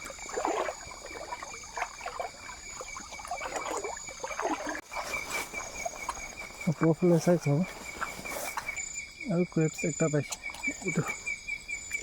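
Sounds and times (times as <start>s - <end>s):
insects trilling: 0.0s - 12.0s
stream water trickling: 0.0s - 12.0s.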